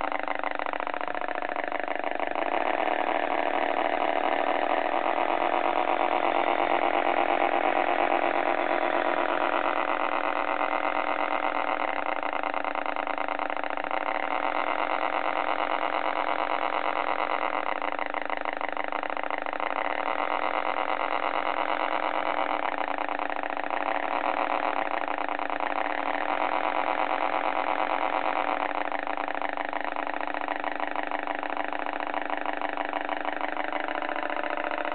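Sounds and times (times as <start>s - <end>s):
simulated truck engine idling: 0.0s - 34.9s.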